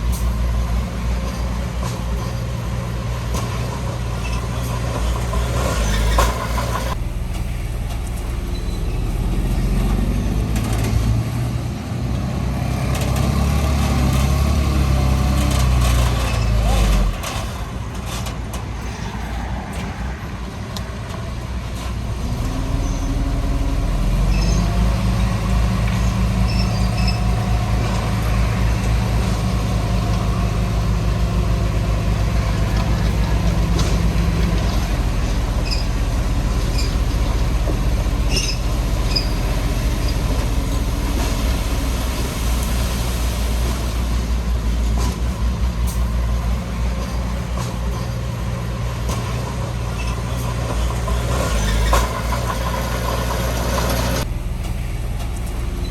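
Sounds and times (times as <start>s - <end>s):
heavy diesel engine running: 0.0s - 18.0s, 21.0s - 55.9s.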